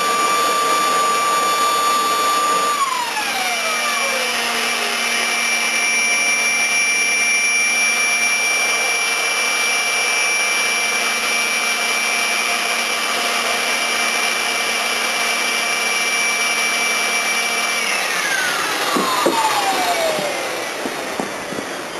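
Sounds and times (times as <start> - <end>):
turbine spooling down: 0.0 - 21.9
turbojet engine whining roar: 0.0 - 21.9.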